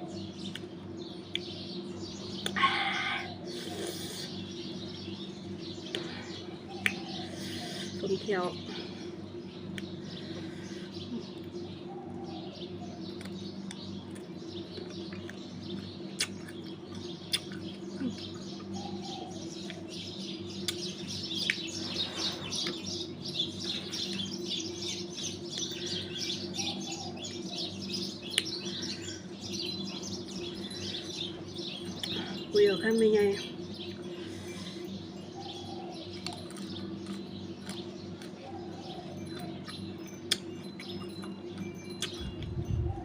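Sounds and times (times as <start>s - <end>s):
small birds chirping: 0.0s - 43.0s
steady low hum: 0.0s - 43.0s.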